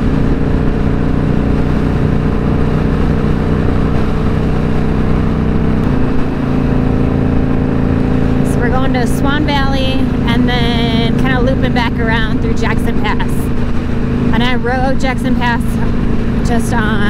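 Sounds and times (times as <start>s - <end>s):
motorcycle engine running: 0.0s - 17.0s
rushing wind: 0.0s - 17.0s.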